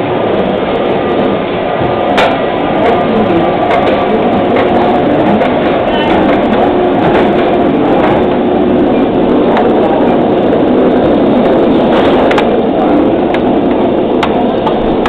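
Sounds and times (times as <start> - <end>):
roller coaster train rumbling: 0.0 - 15.0.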